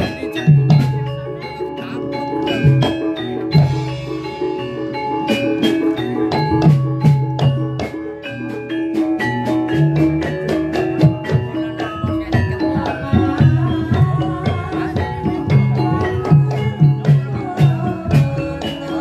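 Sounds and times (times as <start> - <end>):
ringing mallet-struck keyed instruments: 0.0 - 19.0.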